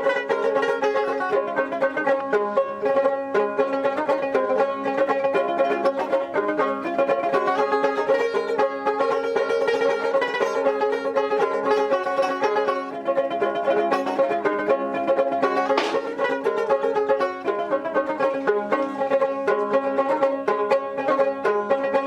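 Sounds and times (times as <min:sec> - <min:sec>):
plucked lute: 0:00.0 - 0:22.0.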